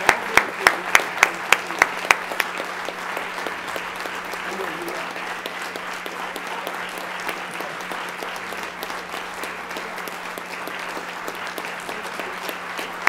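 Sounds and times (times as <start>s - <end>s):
large audience clapping: 0.0s - 13.0s.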